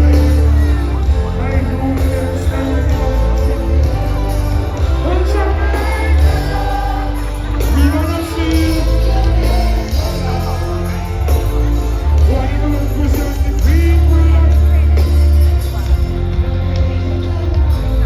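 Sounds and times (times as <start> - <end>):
heavy bass line: 0.0 - 18.0
live reggae band: 0.0 - 18.0
voices singing: 0.0 - 18.0.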